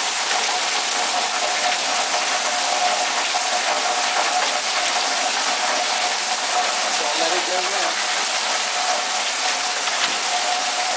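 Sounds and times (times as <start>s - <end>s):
heavy rain hissing: 0.0s - 10.9s
water gushing off roof edge: 0.0s - 10.9s.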